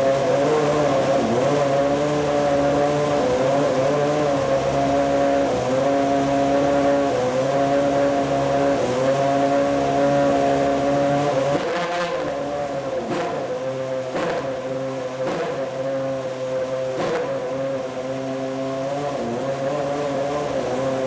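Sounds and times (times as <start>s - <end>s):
racing car engine idling and revving: 0.0s - 21.0s.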